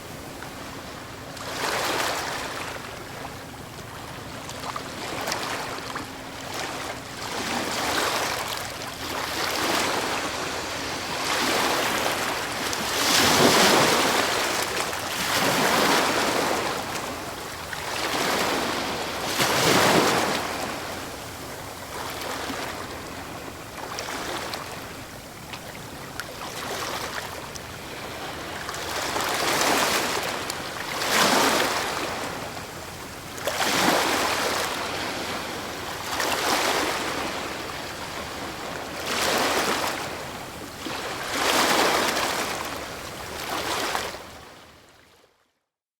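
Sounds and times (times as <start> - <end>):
waves breaking on stony shore: 1.4 - 2.7, 6.4 - 24.8, 26.3 - 32.6, 33.2 - 44.3.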